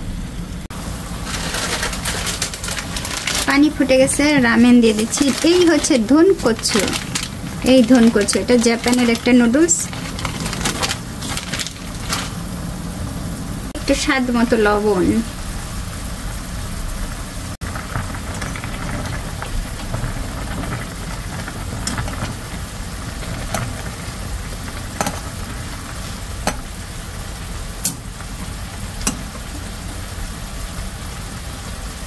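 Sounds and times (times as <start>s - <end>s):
water boiling in a pot: 0.1s - 32.0s
sauce simmering in a frying pan: 0.6s - 32.0s.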